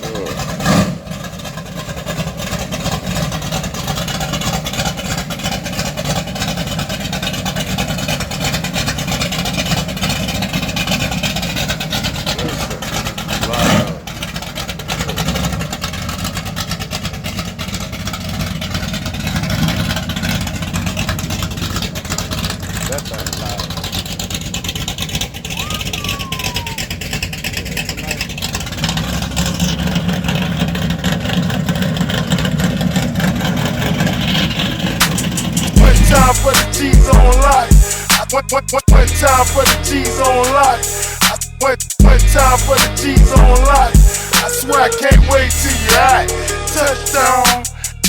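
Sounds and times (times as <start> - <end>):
truck engine idling choppy: 0.0 - 48.0.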